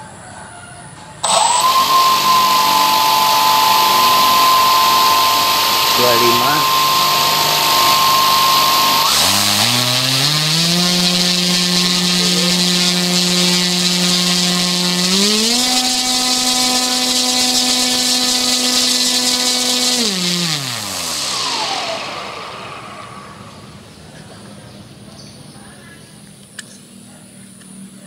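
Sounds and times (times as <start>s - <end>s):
electric motor spinning propeller: 1.2s - 24.3s.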